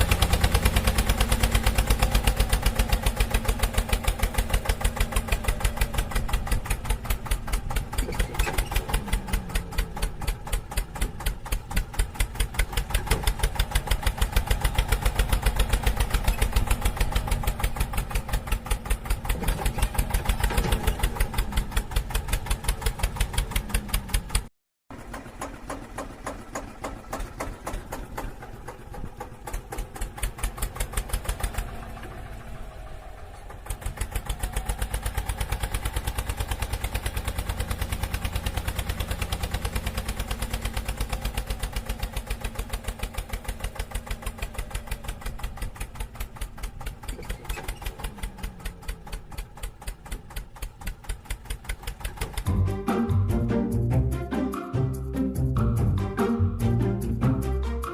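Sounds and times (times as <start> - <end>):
tractor engine knocking: 0.0 - 54.2.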